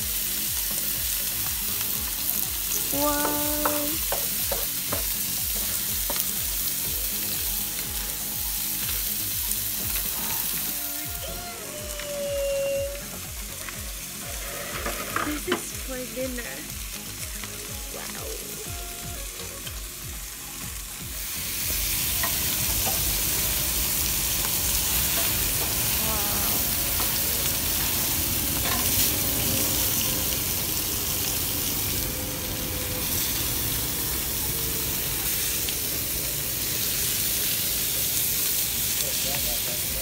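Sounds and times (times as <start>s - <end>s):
meat sizzling on a grill: 0.0s - 40.0s.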